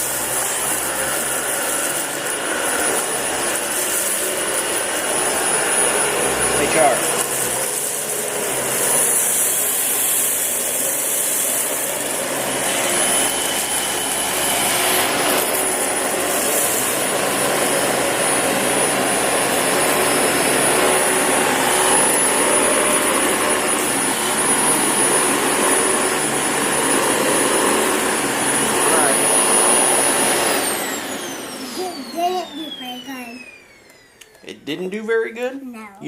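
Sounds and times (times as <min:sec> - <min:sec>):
vacuum sucking up grains: 0:00.0 - 0:31.8
vacuum cleaner running: 0:00.0 - 0:35.8.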